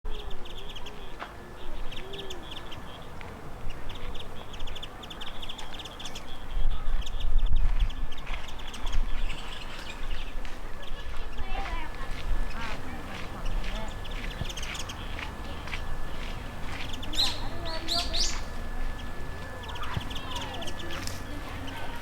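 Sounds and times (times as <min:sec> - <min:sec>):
songbirds chirping: 0:00.1 - 0:22.0.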